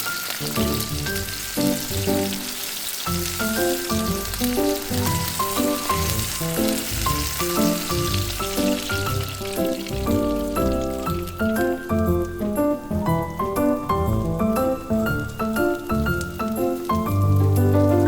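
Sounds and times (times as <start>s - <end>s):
light plucked background music: 0.0s - 18.0s
oil sizzling in frying pan: 0.0s - 18.0s.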